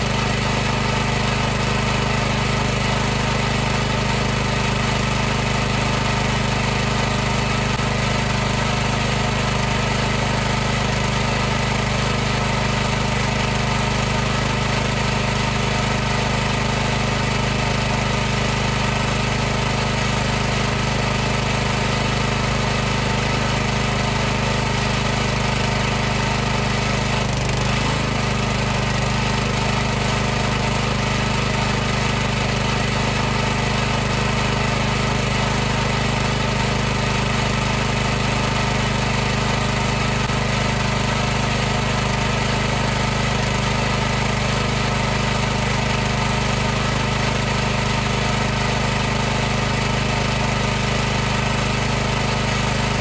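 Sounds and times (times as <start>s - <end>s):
pressure washer running: 0.0s - 53.0s.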